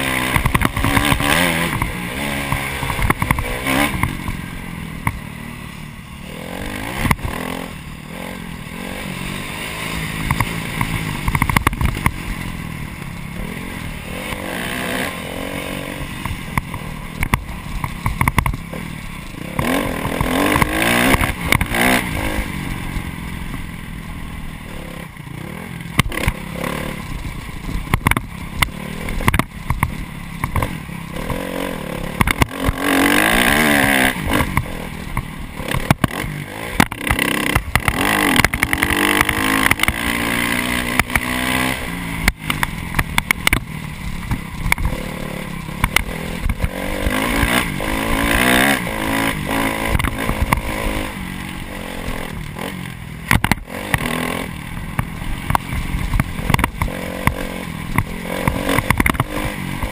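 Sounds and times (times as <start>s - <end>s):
knocks and clatter from bike: 0.0s - 5.3s, 10.2s - 13.2s, 16.2s - 23.7s, 25.9s - 51.2s, 52.1s - 59.9s
dirt bike engine revving: 0.0s - 59.9s.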